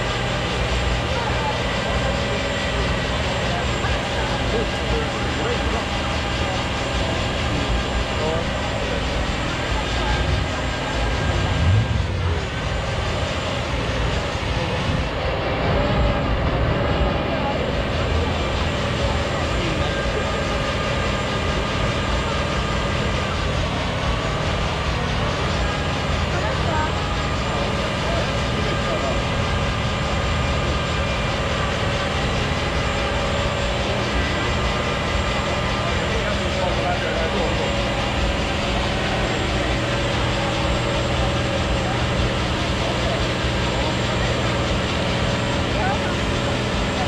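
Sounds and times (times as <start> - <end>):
diesel truck engine running hard: 0.0 - 47.0
tyres spinning on tarmac: 0.0 - 47.0.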